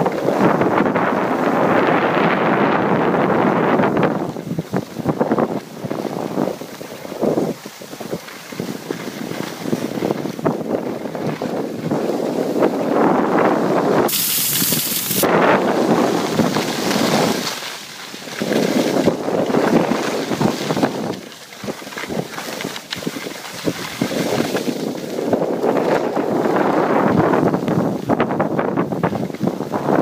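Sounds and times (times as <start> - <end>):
skis scraping: 0.0 - 28.1
skis sliding over snow: 0.0 - 30.0
wind buffeting microphone: 0.0 - 30.0.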